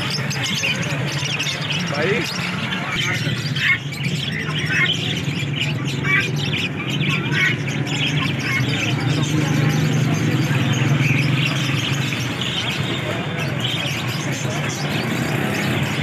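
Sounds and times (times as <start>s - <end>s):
caged birds chirping and squawking: 0.0s - 16.0s.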